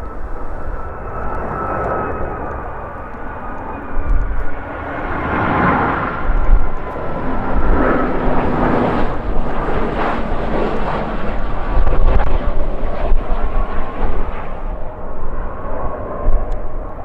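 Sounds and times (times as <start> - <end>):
jet engines: 0.0 - 17.0
wind buffeting microphone: 0.0 - 17.0.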